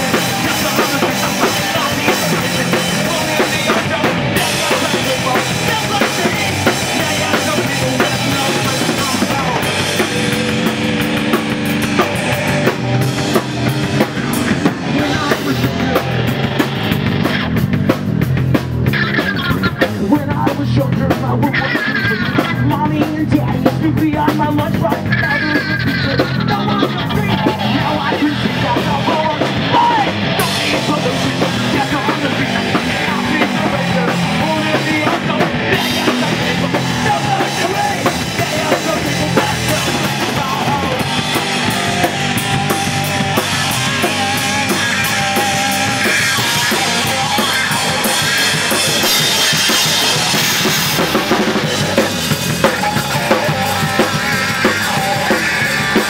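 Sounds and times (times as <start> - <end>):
person singing: 0.0 - 17.6, 18.8 - 56.0
drum kit: 0.0 - 56.0
guitar: 0.0 - 56.0.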